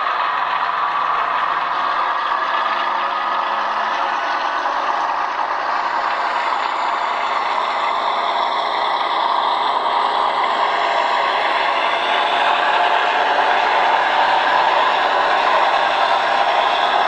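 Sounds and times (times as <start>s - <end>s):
diesel engine sound from small speaker: 0.0s - 17.0s.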